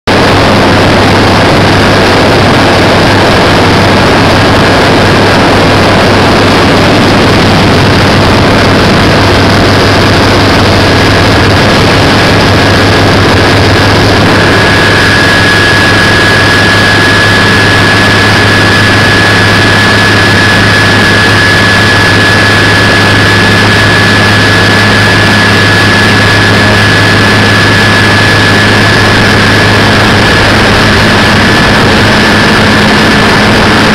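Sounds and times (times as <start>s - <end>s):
boat engine running: 0.1s - 33.9s
thin high whine: 0.1s - 33.9s.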